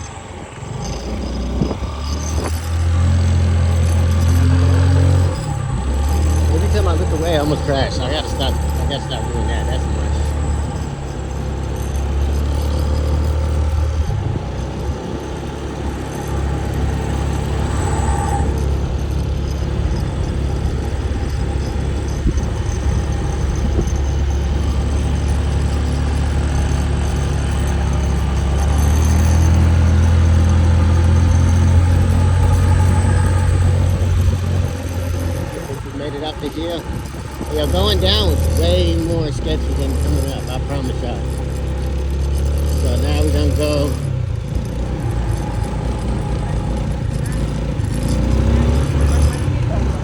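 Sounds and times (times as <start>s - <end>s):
motor scooter engine rumble: 0.0s - 50.0s.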